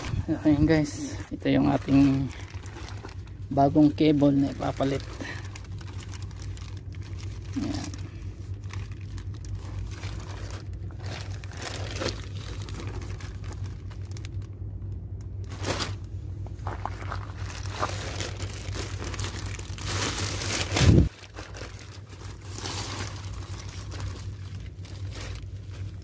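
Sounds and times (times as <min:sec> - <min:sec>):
plastic bag crinkling: 0:00.0 - 0:26.0
steady low hum: 0:00.0 - 0:26.0.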